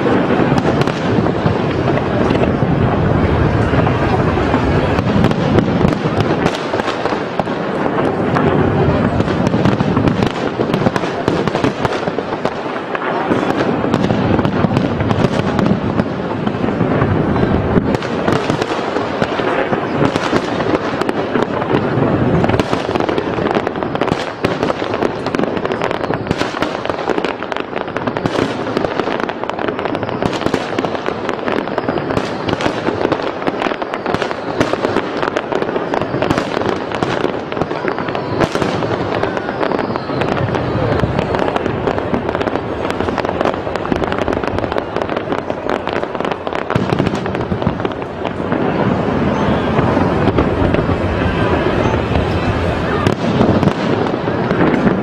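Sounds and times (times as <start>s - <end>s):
firework crackling: 0.0s - 55.0s.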